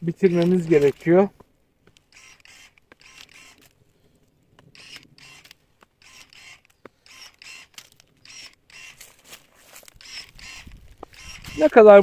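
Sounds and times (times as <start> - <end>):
electric pruning shears whirring: 0.2 - 1.1, 1.8 - 3.8, 4.6 - 12.0
sharp clicks: 0.2 - 3.8, 4.5 - 9.2, 9.8 - 12.0.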